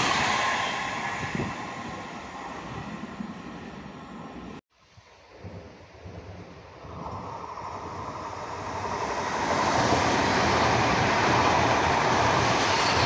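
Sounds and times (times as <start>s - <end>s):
high-speed train rushing past: 0.0s - 4.6s, 5.9s - 13.0s.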